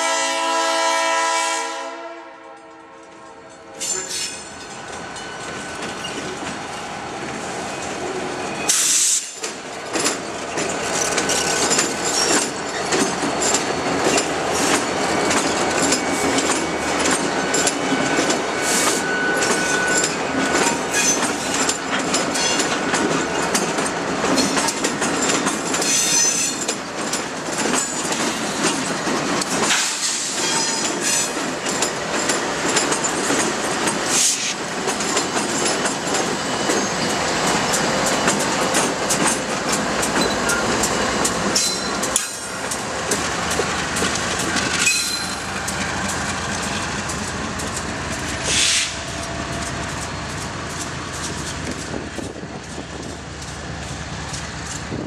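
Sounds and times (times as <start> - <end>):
freight train passing: 0.0 - 55.0
rail-joint clicks: 2.5 - 55.0.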